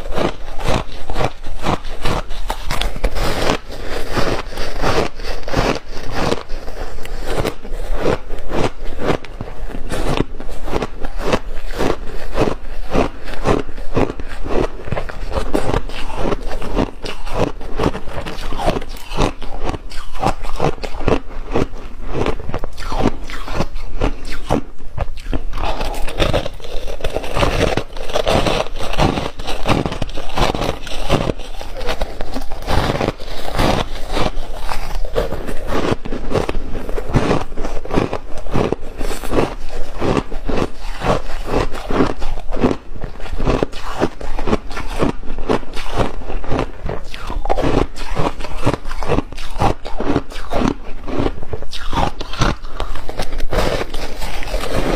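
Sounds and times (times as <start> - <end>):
ice being chewed: 0.0 - 54.9.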